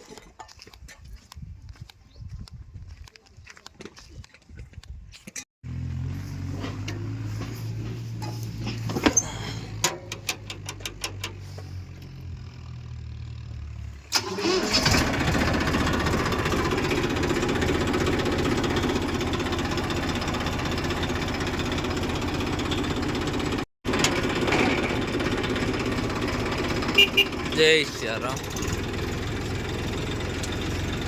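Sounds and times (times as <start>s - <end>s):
diesel engine starting and running: 5.6s - 31.0s.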